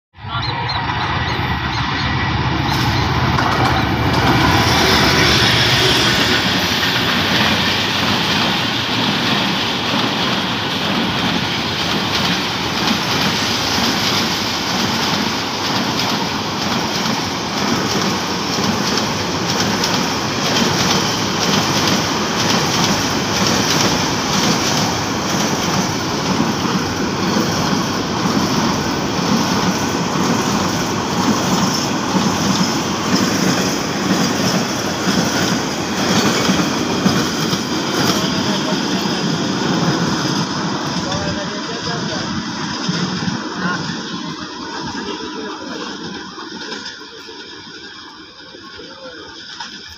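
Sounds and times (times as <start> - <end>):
diesel locomotive engine: 0.1 - 49.9.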